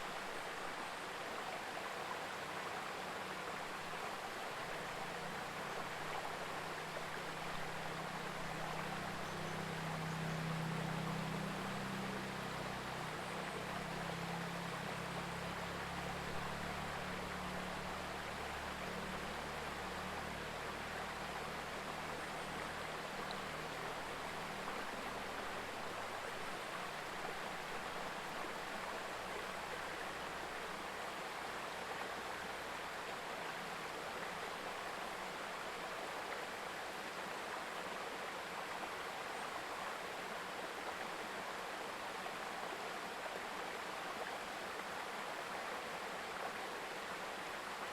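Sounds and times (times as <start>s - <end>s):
river babbling over stones: 0.0s - 47.9s.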